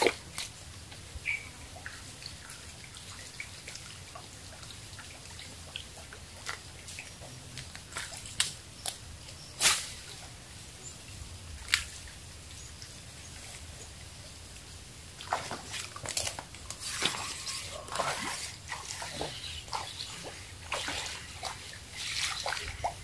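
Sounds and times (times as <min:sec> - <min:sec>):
small water splashes: 0:00.0 - 0:08.9, 0:11.6 - 0:23.0.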